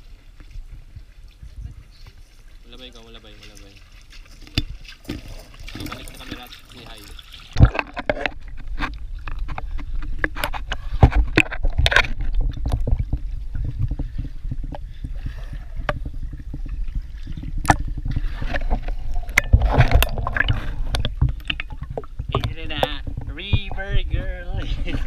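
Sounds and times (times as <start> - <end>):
water splashing and sloshing: 0.0 - 25.0.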